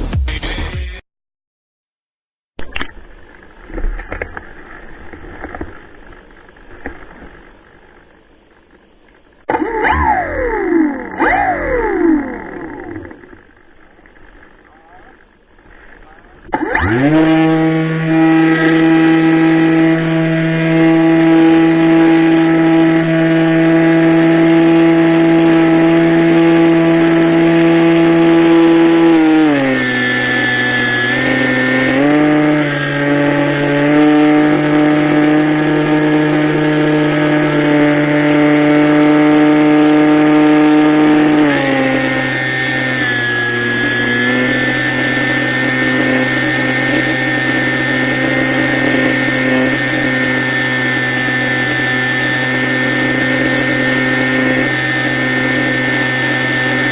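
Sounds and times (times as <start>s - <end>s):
model airplane engine: 2.6s - 56.9s.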